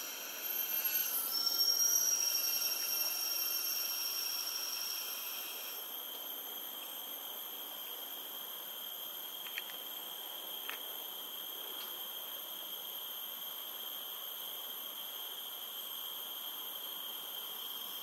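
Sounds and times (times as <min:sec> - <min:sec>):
high-pitched insect drones: 0:00.0 - 0:18.0.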